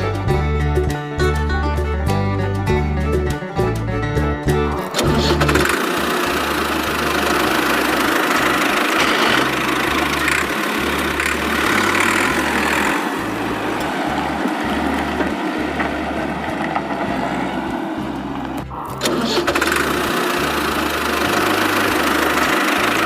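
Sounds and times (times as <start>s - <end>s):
tractor engine idling: 4.5s - 23.0s.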